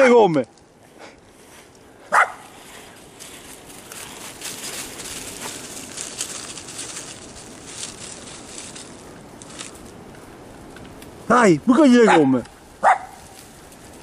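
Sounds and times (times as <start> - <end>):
dry leaves crackling under bike tyres: 0.0 - 14.0.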